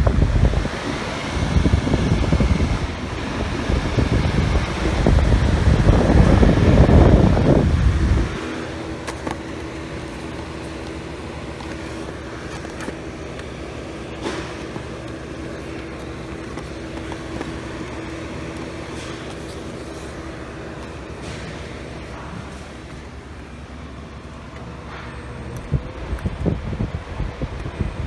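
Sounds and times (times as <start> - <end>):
ventilation hum: 0.0 - 28.0.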